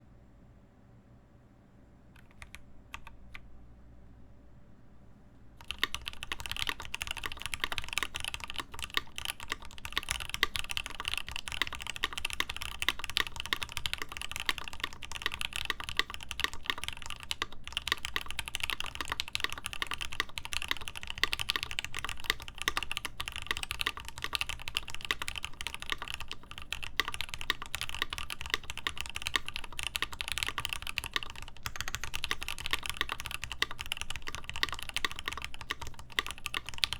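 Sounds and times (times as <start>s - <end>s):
fast typing on mechanical keyboard: 2.2s - 3.4s, 5.6s - 36.9s.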